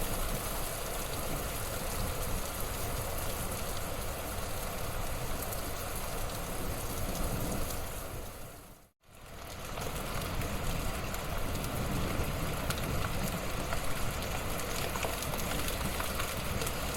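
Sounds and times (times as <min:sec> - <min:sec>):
fire crackles: 0:00.0 - 0:16.9
wood fire burning: 0:00.0 - 0:16.9.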